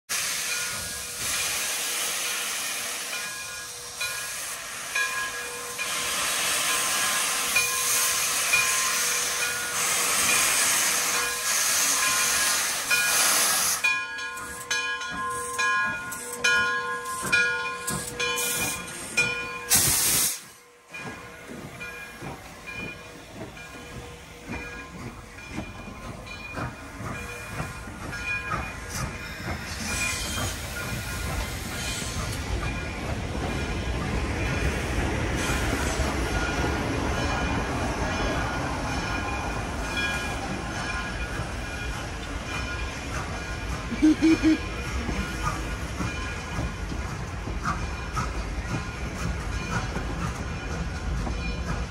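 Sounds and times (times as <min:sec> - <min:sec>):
locomotive exhaust puffs: 0:00.1 - 0:51.9
steam locomotive hissing: 0:00.1 - 0:51.9.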